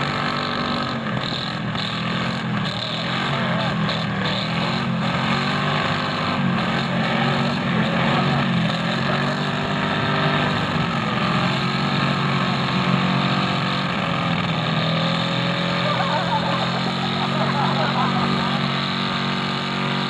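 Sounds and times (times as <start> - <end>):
car engines running hard: 0.0 - 20.0
wheels spinning in mud: 0.0 - 20.0.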